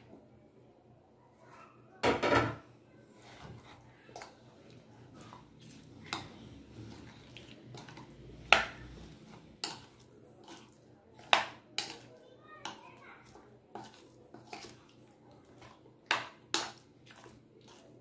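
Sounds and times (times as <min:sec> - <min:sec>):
spoon stirring thick marinade: 0:03.0 - 0:18.0.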